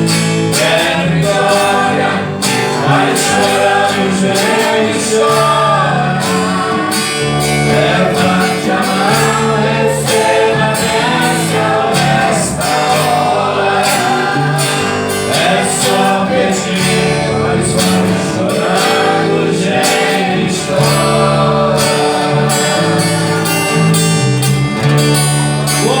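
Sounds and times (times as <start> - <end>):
worship band playing: 0.0 - 26.0.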